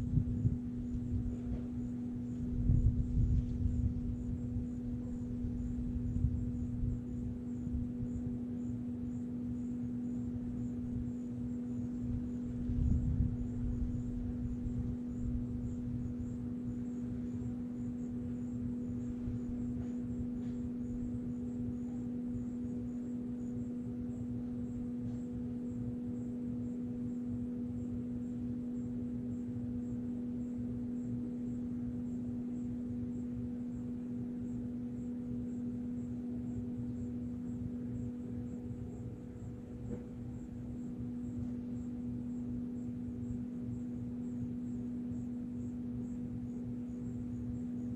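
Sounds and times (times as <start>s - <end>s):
low-pitched hum: 0.0s - 47.9s.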